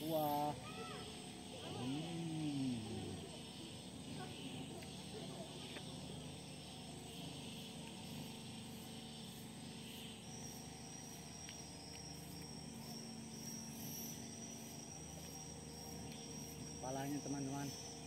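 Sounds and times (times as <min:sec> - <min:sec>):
high insect whine: 0:00.0 - 0:18.0
pulsing insect chirr: 0:00.0 - 0:18.0.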